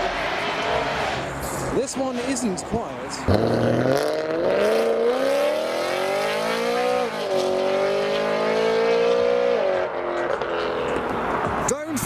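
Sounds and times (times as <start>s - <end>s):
loud car accelerating hard: 0.0s - 11.7s.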